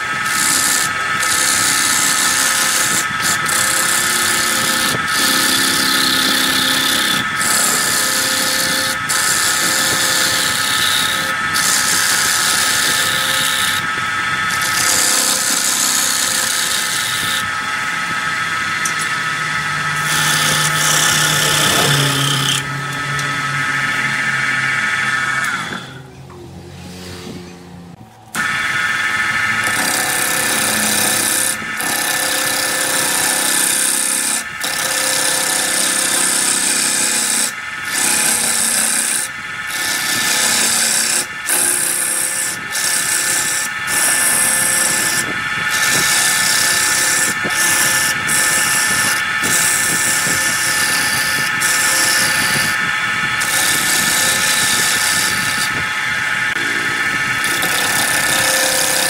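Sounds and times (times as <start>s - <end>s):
gouge cutting spinning wood: 0.0s - 59.0s
wood lathe motor hum: 0.0s - 59.0s.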